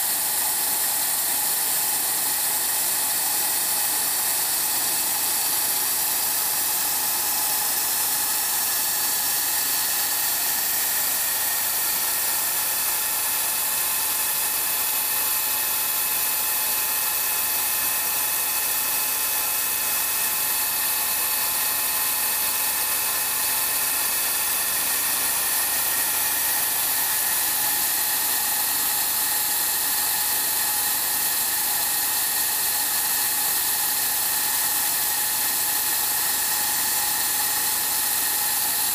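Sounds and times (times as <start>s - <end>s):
milling cutter hissing on metal: 0.0s - 38.9s.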